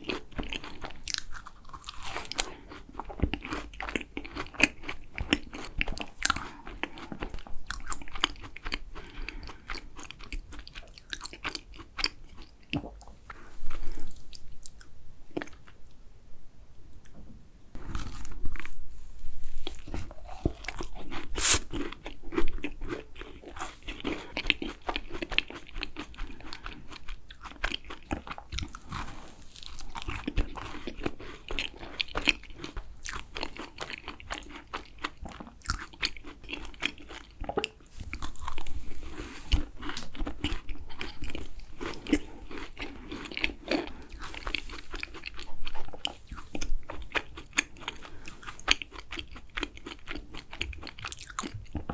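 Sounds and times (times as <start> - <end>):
wet chewing: 0.0 - 15.7, 19.6 - 51.9.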